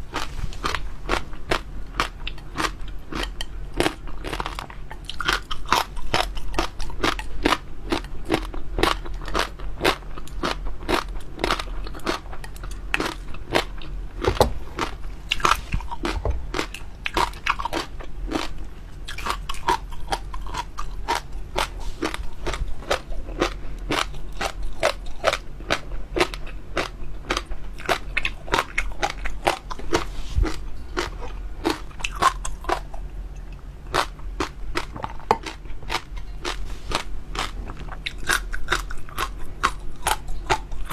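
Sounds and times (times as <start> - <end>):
person chewing crunchy jelly: 0.0 - 40.9.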